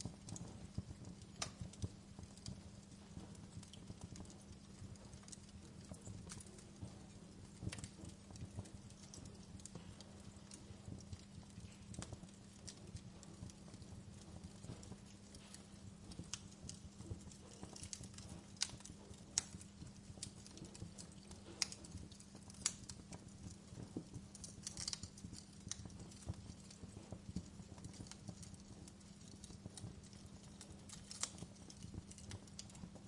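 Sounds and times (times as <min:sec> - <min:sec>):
low fire rumble: 0:00.0 - 0:33.0
wood fire crackling and popping: 0:00.0 - 0:33.0.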